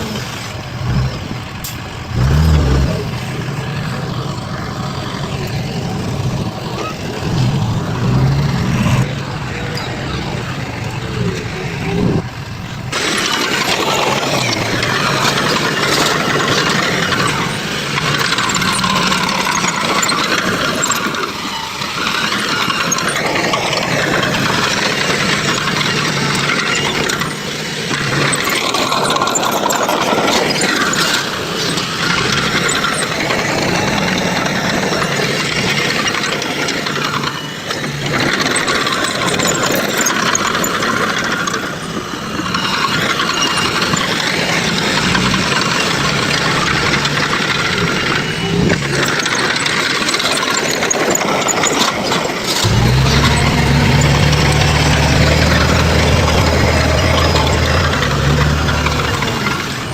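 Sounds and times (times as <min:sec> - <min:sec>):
heavy construction machinery running: 0:00.0 - 0:59.9.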